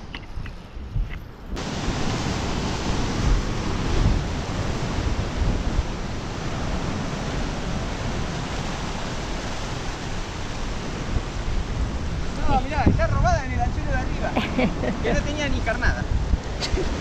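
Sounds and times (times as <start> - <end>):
wind noise on microphone: 0.0 - 17.0
surf washing against rocks: 1.5 - 17.0.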